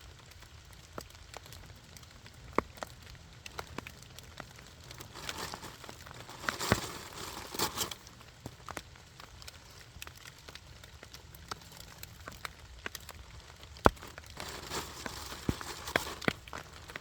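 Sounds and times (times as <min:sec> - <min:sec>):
faint hiss of rain: 0:00.0 - 0:17.0
wood fire crackling: 0:00.0 - 0:17.0.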